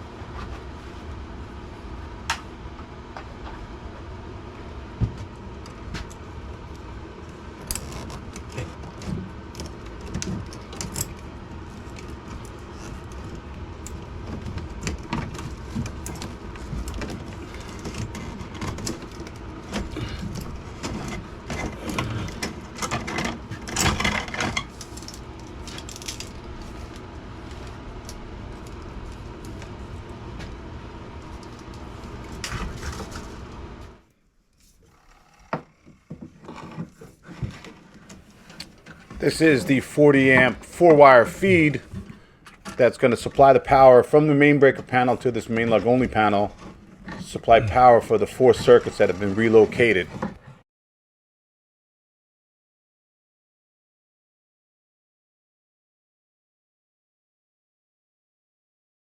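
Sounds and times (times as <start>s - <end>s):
steady low hum: 0.0s - 50.6s.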